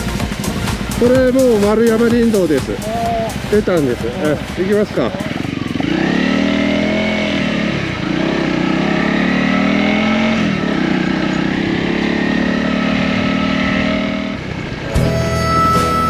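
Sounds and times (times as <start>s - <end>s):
motorcycle engine pulling away: 0.0s - 16.0s.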